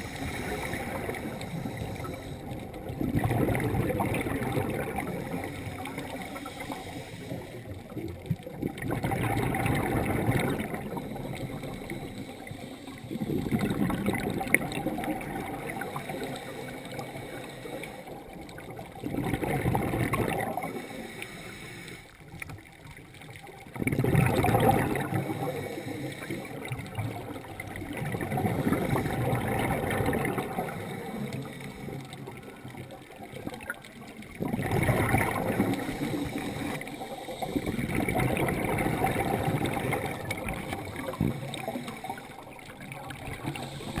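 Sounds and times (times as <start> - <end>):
underwater bubbles gurgling: 0.0 - 44.0.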